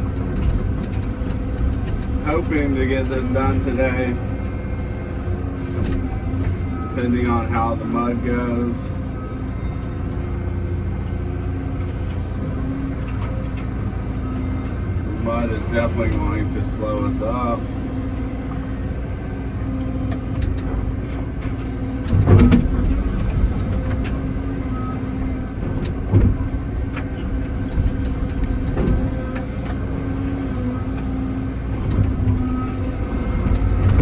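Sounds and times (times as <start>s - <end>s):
knocks and clunks: 0.0s - 8.5s, 9.4s - 34.0s
excavator diesel engine: 0.0s - 34.0s.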